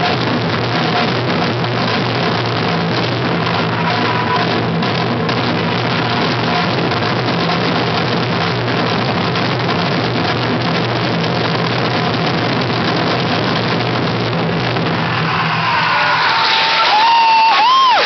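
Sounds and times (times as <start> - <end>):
high held tone: 0.0 - 18.0
taiko drum roll: 0.0 - 18.0.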